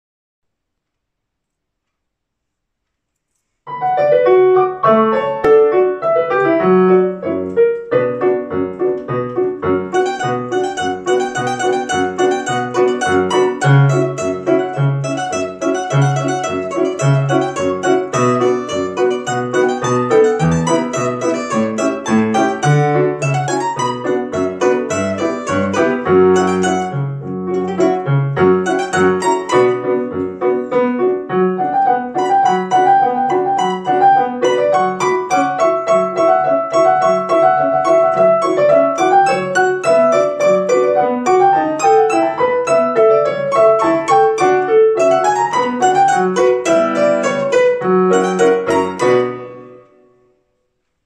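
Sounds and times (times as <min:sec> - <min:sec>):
piano playing a polka: 0:03.7 - 0:50.3.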